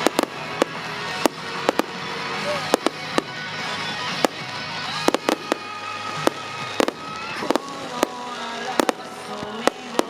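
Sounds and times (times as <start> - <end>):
fireworks bursting: 0.0 - 10.0
fireworks crackle: 0.0 - 10.0
music: 0.0 - 10.0.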